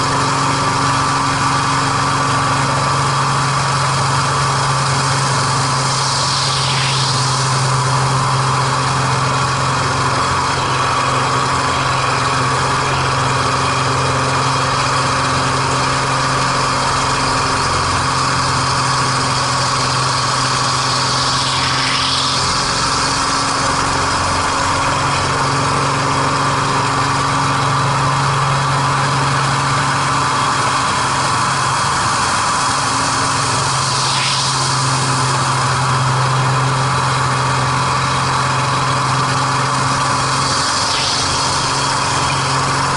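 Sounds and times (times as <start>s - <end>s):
plane piston engine and propeller: 0.0s - 42.9s.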